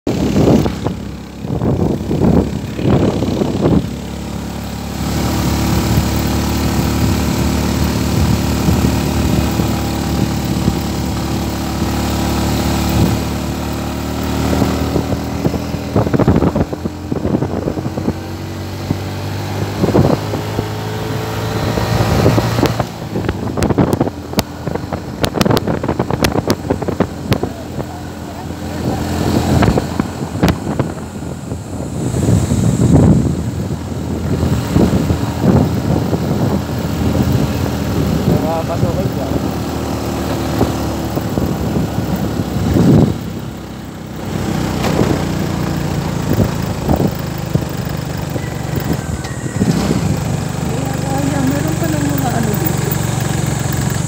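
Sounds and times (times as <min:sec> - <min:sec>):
motorbike engine running: 0:00.1 - 0:54.0
wind rumbling on microphone: 0:00.1 - 0:54.0.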